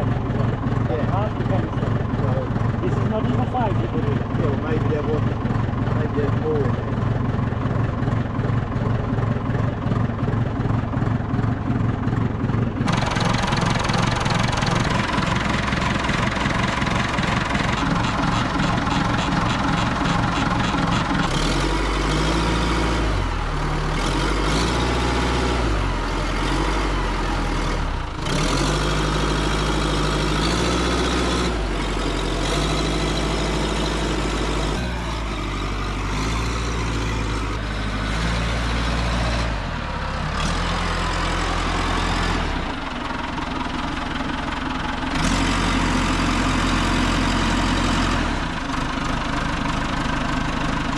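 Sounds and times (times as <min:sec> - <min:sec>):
backhoe loader engine running: 0:00.0 - 0:50.9.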